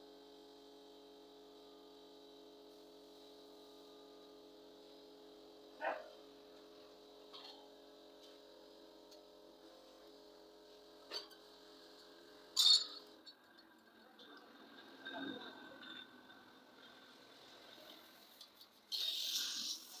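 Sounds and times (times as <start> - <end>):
faint machine hum: 0.0 - 20.0.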